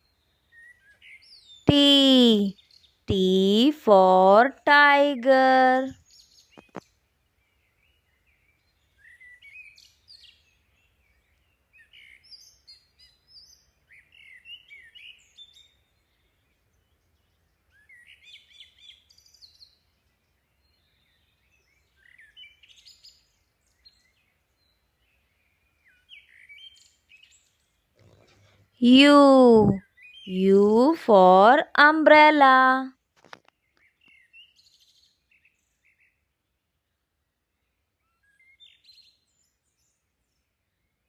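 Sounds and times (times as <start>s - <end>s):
faint birds chirping: 0.0s - 32.9s.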